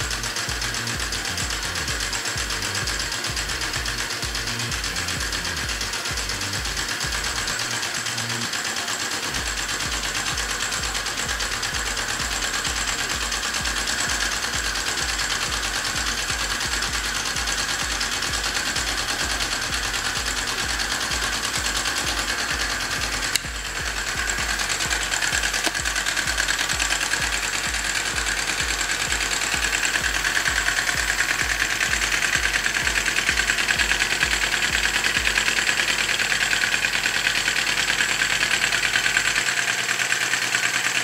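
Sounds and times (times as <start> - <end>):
steam engine chuffing: 0.0 - 41.0.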